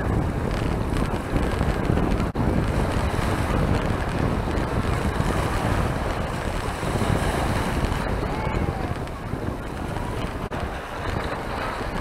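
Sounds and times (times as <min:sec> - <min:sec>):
sea waves washing in: 0:00.0 - 0:12.0
wind buffeting microphone: 0:00.0 - 0:12.0.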